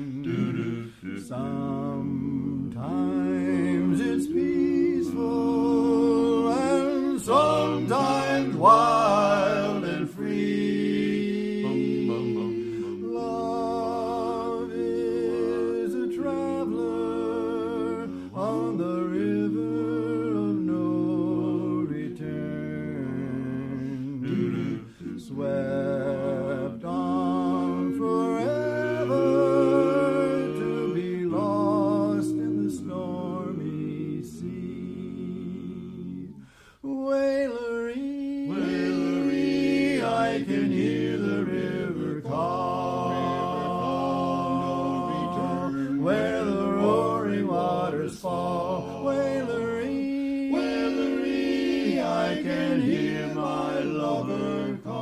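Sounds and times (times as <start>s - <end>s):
barbershop quartet singing: 0.0s - 55.0s.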